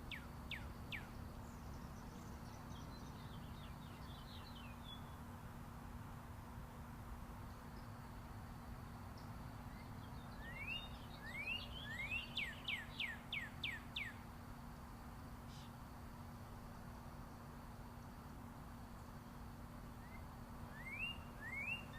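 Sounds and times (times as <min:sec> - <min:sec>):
songbird singing: 0:00.0 - 0:06.1, 0:07.1 - 0:21.9.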